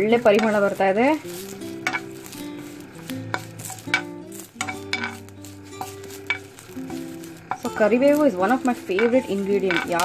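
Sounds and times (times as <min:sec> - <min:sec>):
leaves sizzling in oil: 0:00.0 - 0:10.0
soft background music: 0:00.0 - 0:10.0
spatula scraping pan: 0:00.0 - 0:10.0.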